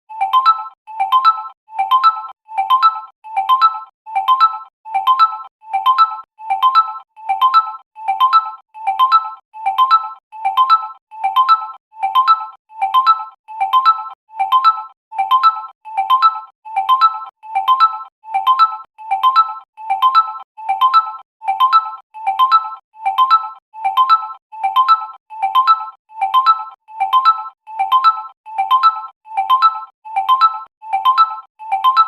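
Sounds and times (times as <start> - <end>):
electronic ringtone: 0.1 - 32.0.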